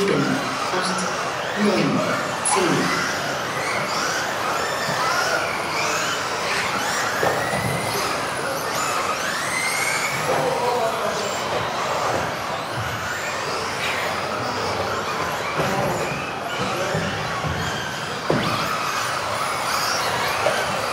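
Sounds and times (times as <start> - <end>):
electric toy car motors whining: 0.0 - 20.9.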